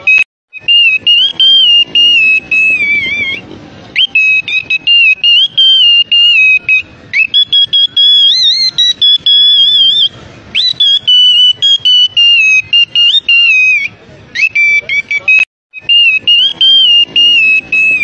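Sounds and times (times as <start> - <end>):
parrot whistling: 0.0 - 3.4, 4.0 - 18.0.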